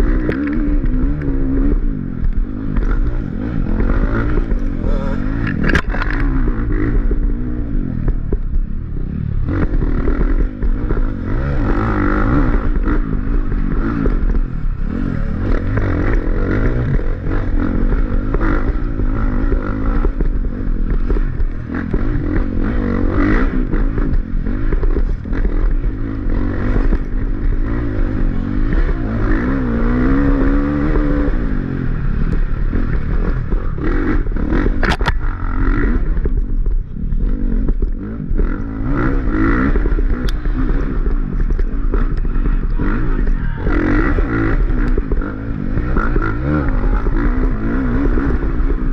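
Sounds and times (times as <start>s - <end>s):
bike clattering over rough trail: 0.0s - 48.9s
dirt bike engine revving: 0.0s - 48.9s.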